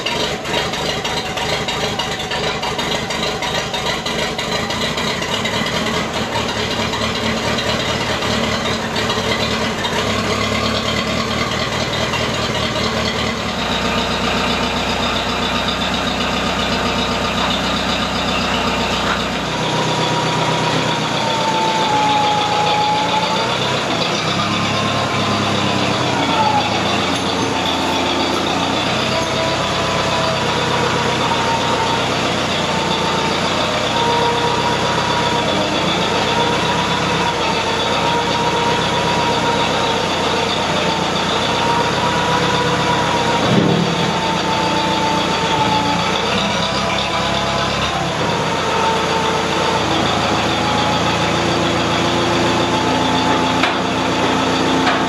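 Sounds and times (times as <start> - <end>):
loader whine: 0.0 - 55.0
tractor engine running: 0.0 - 55.0.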